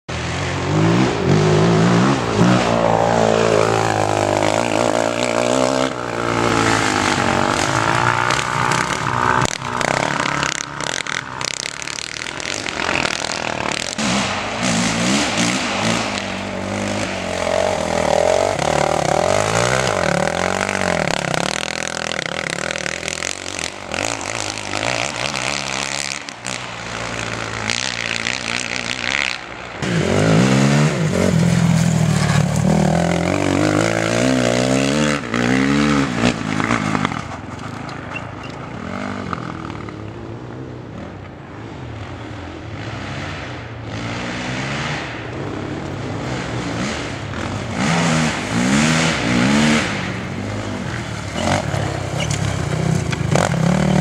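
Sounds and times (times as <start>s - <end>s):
quad engines revving: 0.1s - 40.0s, 42.7s - 54.0s.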